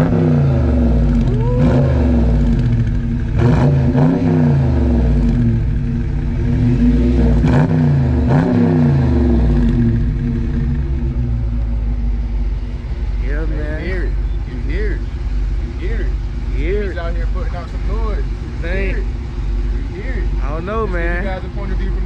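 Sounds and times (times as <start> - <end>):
car engine idling: 0.0 - 22.0
engine throttle blips: 0.0 - 22.0.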